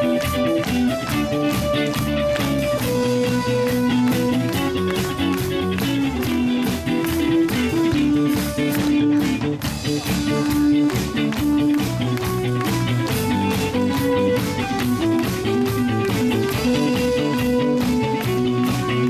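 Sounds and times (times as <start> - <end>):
drum kit beat: 0.0 - 19.0
electric guitars: 0.0 - 19.0.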